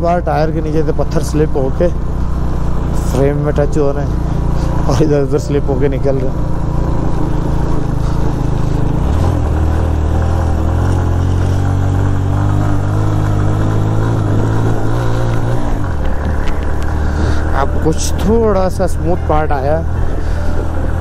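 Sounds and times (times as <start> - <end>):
motorcycle engine labouring uphill: 0.0 - 21.0.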